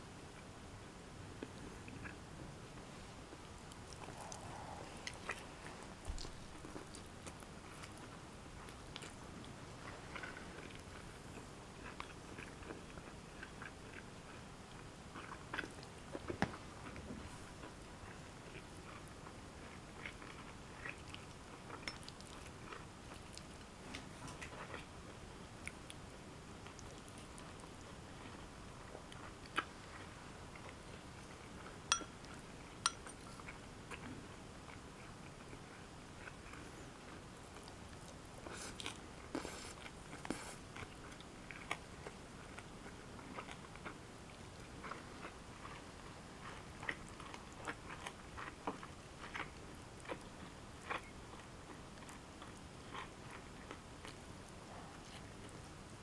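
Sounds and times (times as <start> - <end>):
person chewing food: 1.4 - 2.2, 3.4 - 26.0, 26.6 - 55.6.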